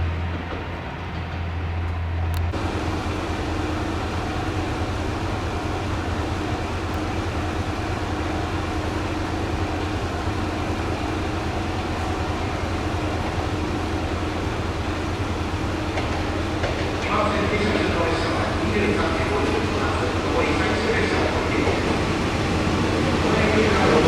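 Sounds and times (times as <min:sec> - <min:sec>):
diesel engine idling: 0:02.5 - 0:24.0.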